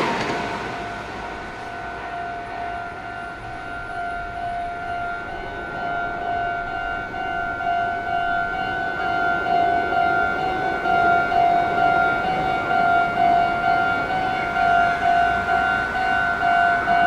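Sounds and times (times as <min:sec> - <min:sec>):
level crossing alarm bell: 0:00.2 - 0:17.0.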